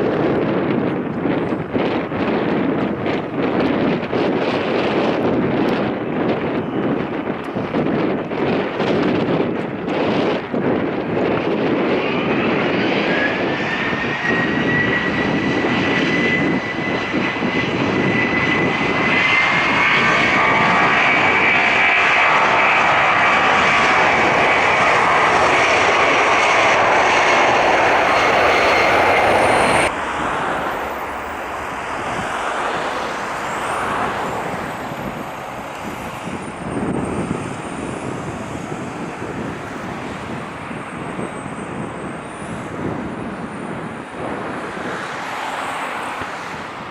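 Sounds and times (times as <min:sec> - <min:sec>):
jet engine whine: 0:00.0 - 0:46.9
loud jet noise: 0:00.0 - 0:46.9.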